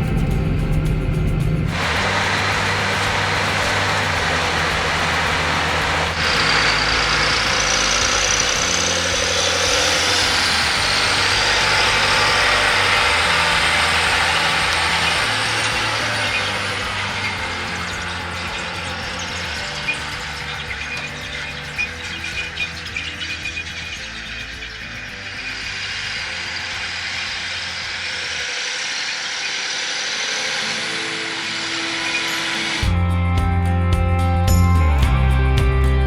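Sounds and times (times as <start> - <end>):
harvesting machinery working: 0.0 - 32.9
tractor engine under load: 0.0 - 32.9
high whine: 0.0 - 36.0.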